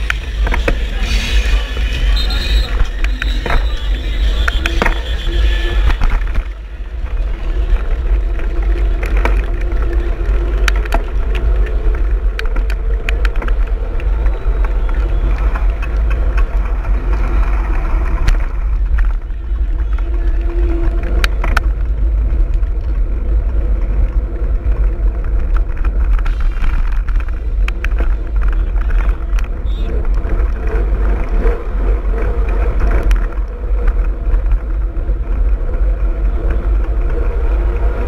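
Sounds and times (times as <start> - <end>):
knobby tyres on asphalt: 0.0 - 38.0
wind rumble on microphone: 0.0 - 38.0
bicycle clicks and rattles: 2.8 - 38.0.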